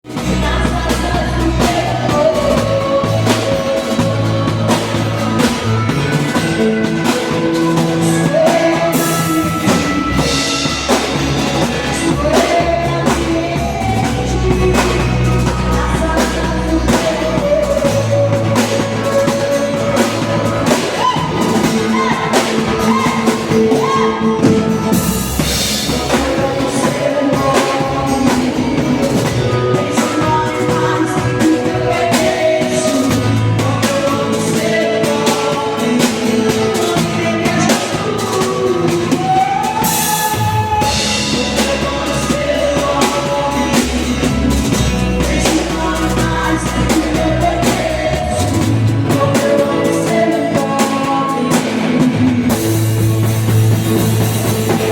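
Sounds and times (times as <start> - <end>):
band with drums and guitar: 0.0 - 54.9
person singing: 0.0 - 54.9.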